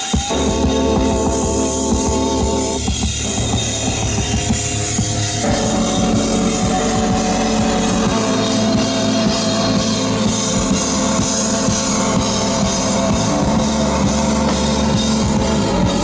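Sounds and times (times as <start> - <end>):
drum kit: 0.0 - 16.0
held synth tones: 0.0 - 16.0.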